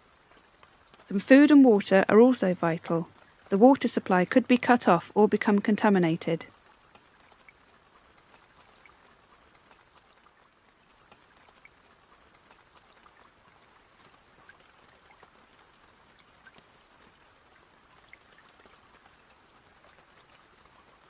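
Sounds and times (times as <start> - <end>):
faint steady rain: 0.0 - 21.0.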